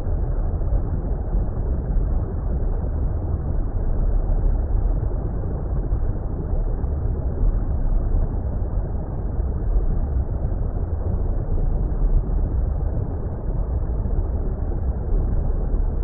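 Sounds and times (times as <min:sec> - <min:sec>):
muffled water rumble: 0:00.0 - 0:16.0.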